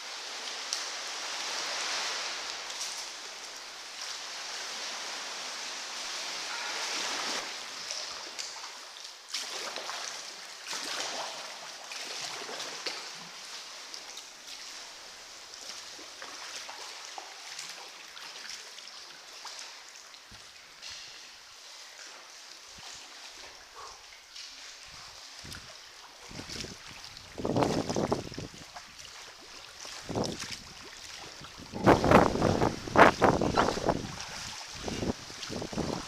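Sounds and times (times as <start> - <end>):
water splashing around kayak: 0.0 - 36.0.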